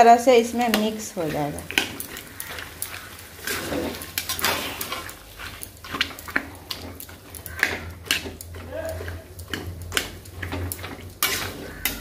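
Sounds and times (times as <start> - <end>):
metal spatula scraping a pan: 0.2 - 12.0.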